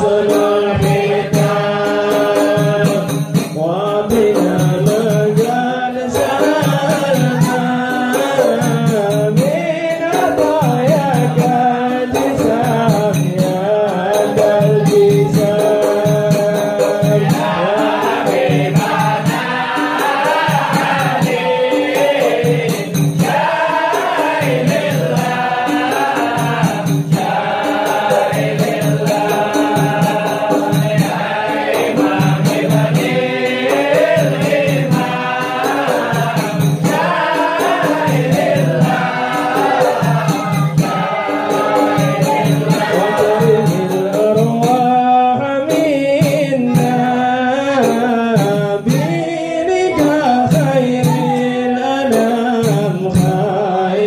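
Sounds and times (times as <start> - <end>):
frame drums beating: 0.0 - 54.0
men chanting in unison: 0.0 - 54.0.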